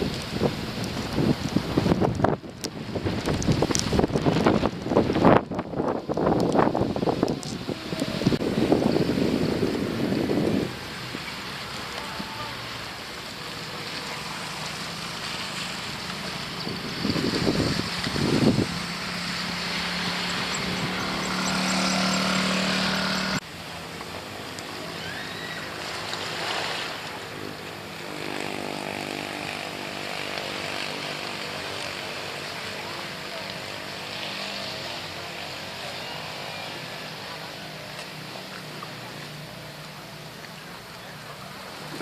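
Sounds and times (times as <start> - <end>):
engine humming: 0.0 - 42.0.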